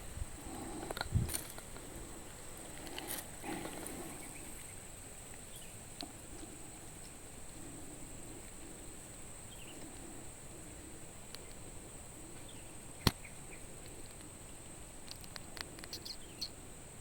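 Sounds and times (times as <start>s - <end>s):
faint chirps: 0.0s - 17.0s
insects droning: 0.0s - 17.0s.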